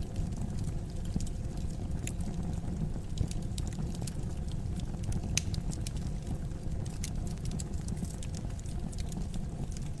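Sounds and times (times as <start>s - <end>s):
rumble of fire flames: 0.0s - 10.0s
wood fire crackling and popping: 0.0s - 10.0s.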